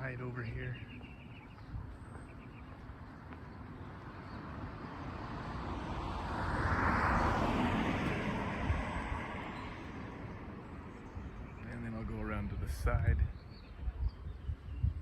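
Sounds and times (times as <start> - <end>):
vehicle tyre and road noise: 0.0 - 15.0.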